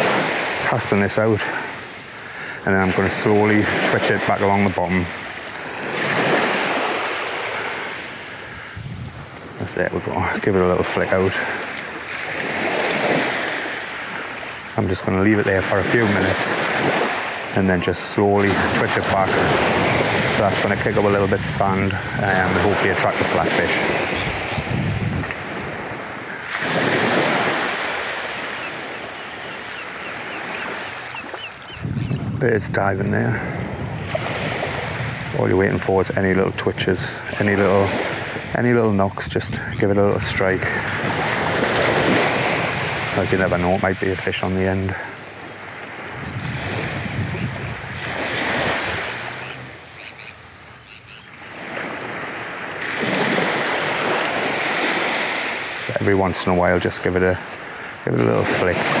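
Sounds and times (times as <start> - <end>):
small waves washing on beach: 0.0 - 59.0.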